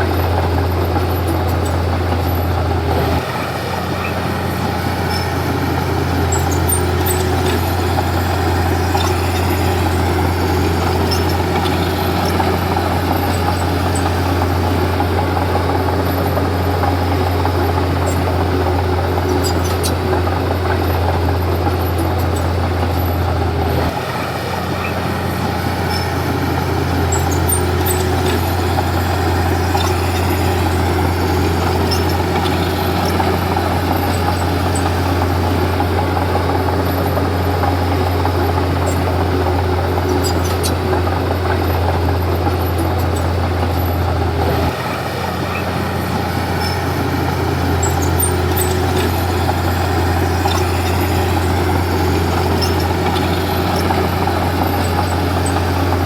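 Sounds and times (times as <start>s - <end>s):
bulldozer diesel engine humming: 0.0s - 56.0s.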